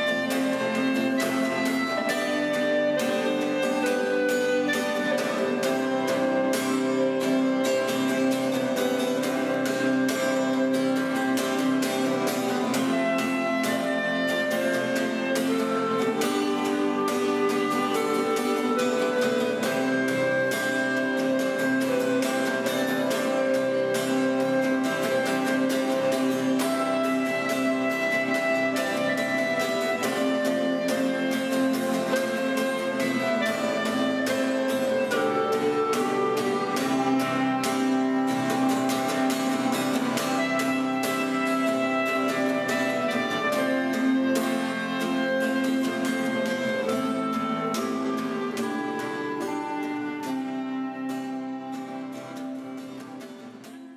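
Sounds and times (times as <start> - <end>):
instrumental background music: 0.0 - 53.9.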